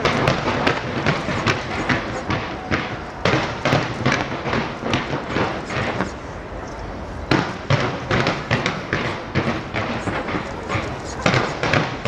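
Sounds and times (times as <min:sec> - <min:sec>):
continuous rumble: 0:00.0 - 0:12.0
fireworks bangs: 0:00.0 - 0:12.0.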